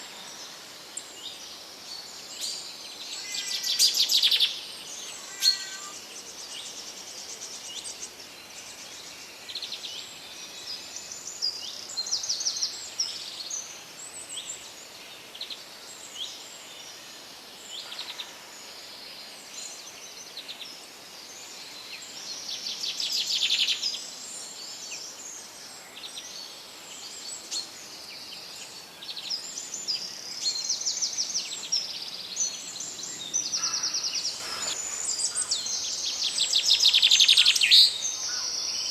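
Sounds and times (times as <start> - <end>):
faint hiss: 0.0 - 38.9
songbirds chirping and trilling: 0.0 - 38.9.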